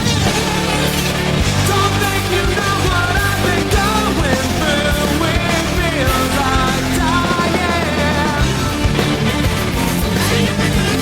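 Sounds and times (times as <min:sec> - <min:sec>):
person singing: 0:00.0 - 0:11.0
rock music with distorted guitar: 0:00.0 - 0:11.0.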